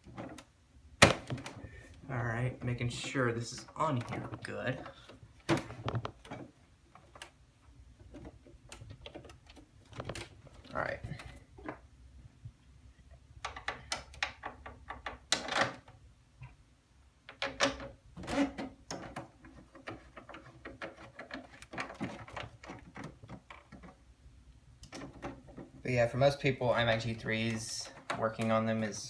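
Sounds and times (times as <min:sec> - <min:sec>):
computer parts clicking and knocking: 0:00.0 - 0:01.7, 0:02.4 - 0:11.9, 0:13.4 - 0:16.6, 0:17.2 - 0:24.1, 0:24.8 - 0:29.0.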